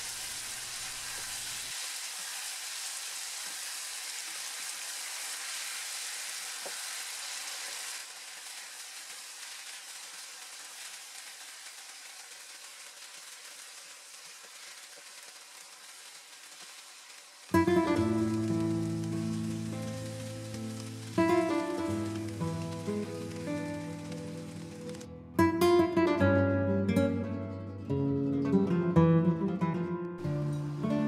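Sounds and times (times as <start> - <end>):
food sizzling in a frying pan: 0.0 - 27.1, 30.2 - 31.0.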